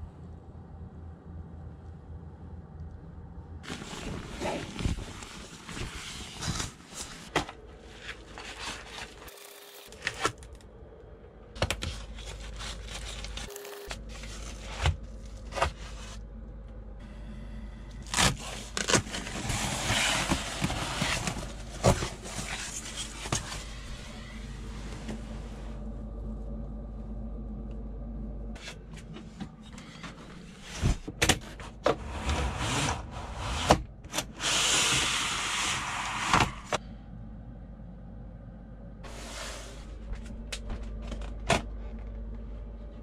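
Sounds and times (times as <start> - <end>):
insulation crinkling and scraping: 3.6 - 16.9, 17.9 - 36.9, 39.0 - 43.0.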